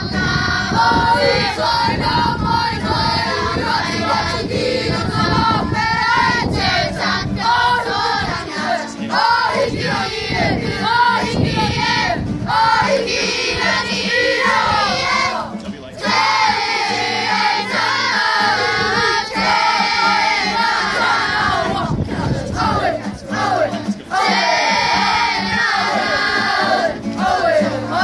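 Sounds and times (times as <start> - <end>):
acoustic guitar: 0.0 - 28.0
children's choir singing: 0.0 - 28.0.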